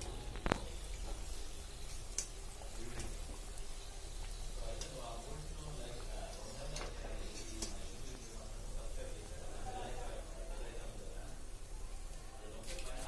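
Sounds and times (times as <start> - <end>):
pastries deep-frying in oil: 0.0 - 13.0.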